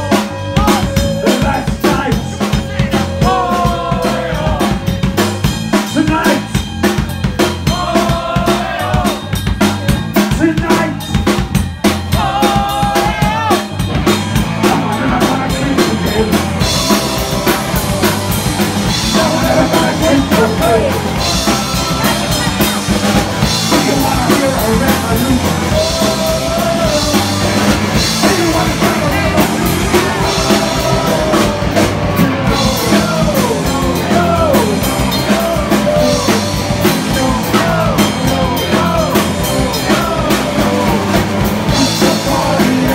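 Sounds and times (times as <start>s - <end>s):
person singing: 0.0s - 6.5s, 12.1s - 13.7s, 14.5s - 42.9s
bass guitar: 0.0s - 42.9s
drum kit: 0.0s - 42.9s
electric guitars: 0.0s - 42.9s.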